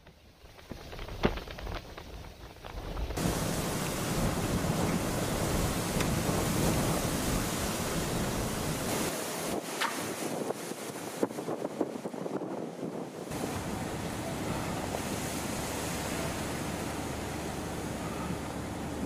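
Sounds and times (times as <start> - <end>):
strong wind gusts on microphone: 0.7 - 16.8.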